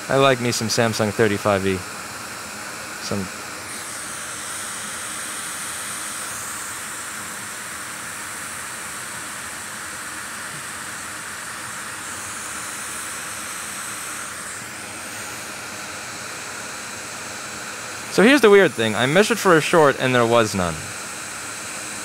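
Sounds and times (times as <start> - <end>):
hot air hissing: 0.0 - 22.0.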